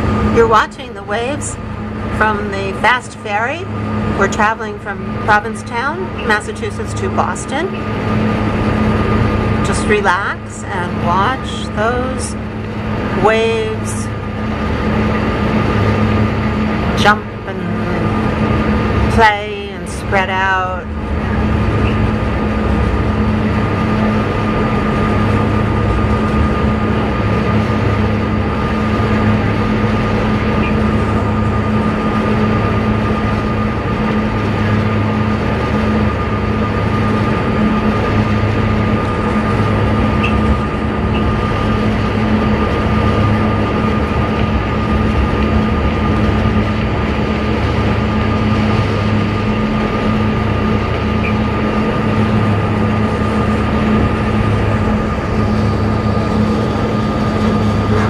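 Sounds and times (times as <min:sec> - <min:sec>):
ferry engines droning: 0:00.0 - 0:58.0.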